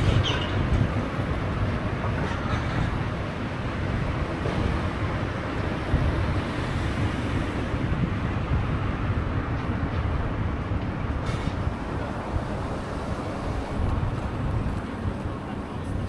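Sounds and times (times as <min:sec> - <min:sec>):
bicycle rolling noise: 0:00.0 - 0:16.0
wind buffeting microphone: 0:00.0 - 0:16.0.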